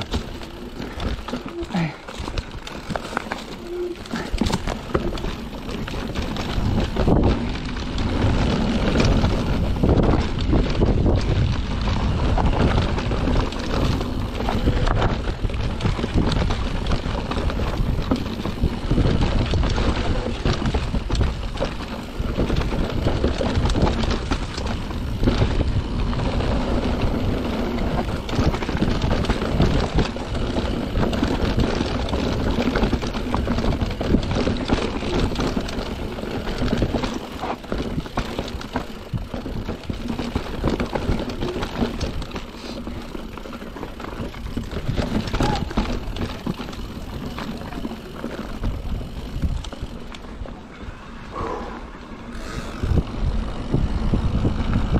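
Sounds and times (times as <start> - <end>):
tyres on dirt and rock: 0.0 - 51.3
bike rattling over bumps: 0.0 - 54.9.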